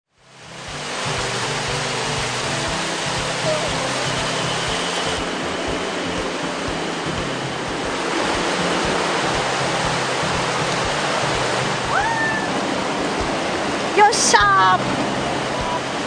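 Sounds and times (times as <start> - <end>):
faint background music: 0.2 - 16.0
river flowing over rocks: 0.2 - 16.0.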